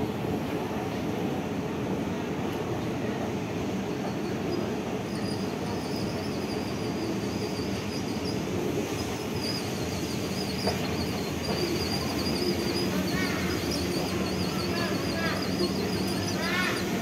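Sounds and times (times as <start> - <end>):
escalator hum and rumble: 0.0 - 17.0.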